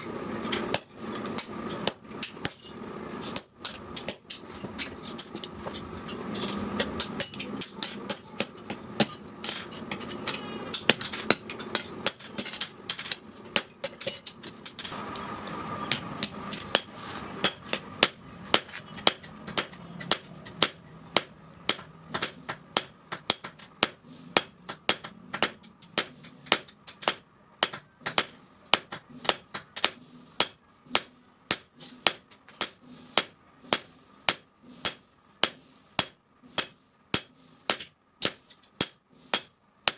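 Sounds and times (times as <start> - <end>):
hammer striking steel on anvil: 0.0 - 15.0, 15.8 - 39.9.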